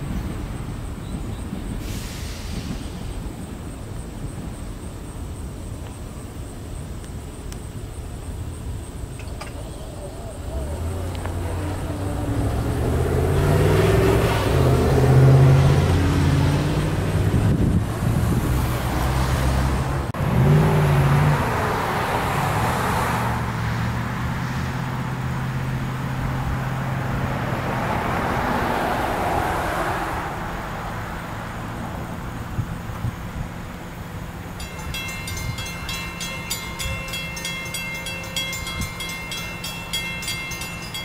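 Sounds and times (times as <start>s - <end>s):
cars passing by: 0.0s - 41.0s
vehicle engine humming: 6.1s - 41.0s.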